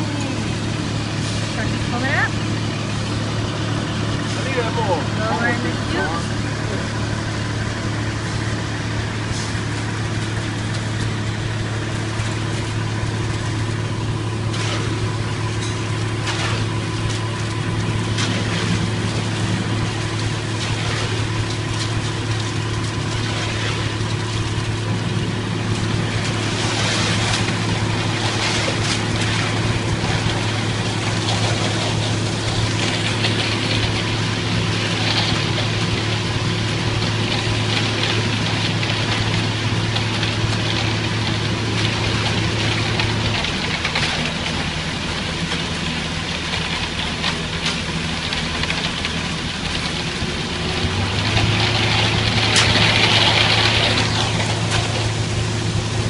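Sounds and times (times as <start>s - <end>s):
diesel truck engine running: 0.0s - 56.0s
wet concrete sliding and raked: 0.0s - 56.0s.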